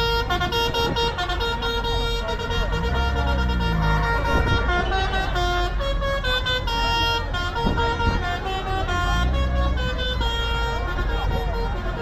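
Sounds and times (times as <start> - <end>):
tractor engines rumbling: 0.0 - 12.0.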